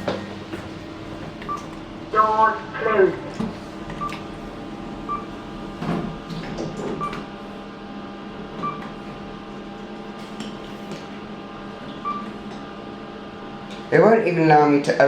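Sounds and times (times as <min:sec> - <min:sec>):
lift car hum: 0:00.0 - 0:14.2.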